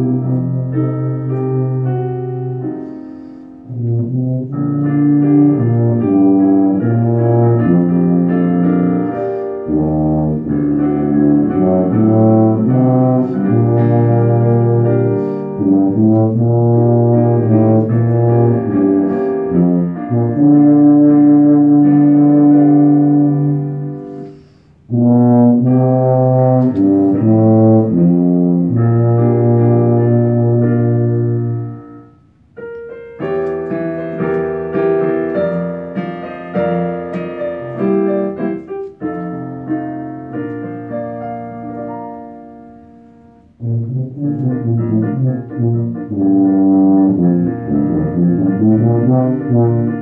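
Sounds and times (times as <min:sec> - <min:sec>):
tuba playing low notes: 0:00.0 - 0:50.0.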